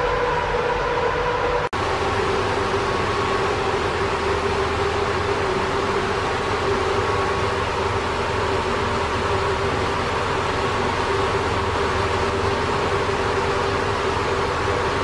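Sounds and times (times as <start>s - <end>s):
engine room machinery running: 0.0s - 15.0s
steady hum: 0.0s - 15.0s.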